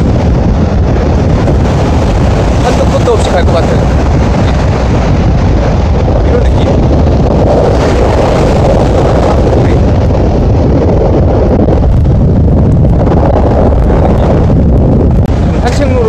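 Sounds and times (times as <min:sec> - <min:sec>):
heavy surf breaking: 0:00.0 - 0:16.0
wind buffeting microphone: 0:00.0 - 0:16.0.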